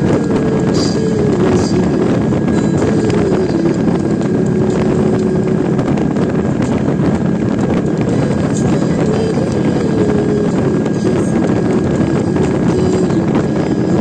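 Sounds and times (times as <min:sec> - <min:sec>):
motorcycle engine cruising: 0:00.0 - 0:14.0
wind rushing over microphone: 0:00.0 - 0:14.0.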